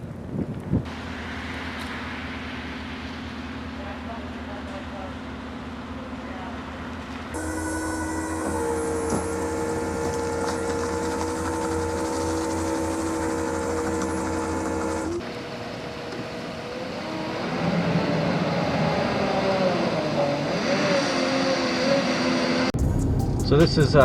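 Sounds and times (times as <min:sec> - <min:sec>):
truck engine and road noise: 0:00.0 - 0:24.0
steady hum with whining tones: 0:00.9 - 0:24.0.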